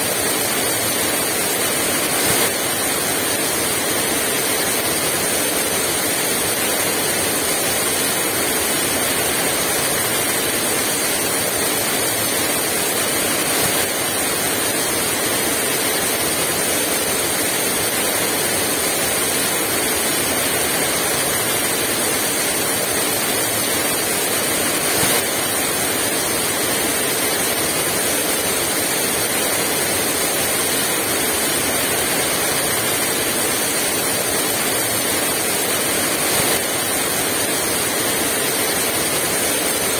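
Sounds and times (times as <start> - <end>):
heavy rain pouring: 0.2 - 39.9.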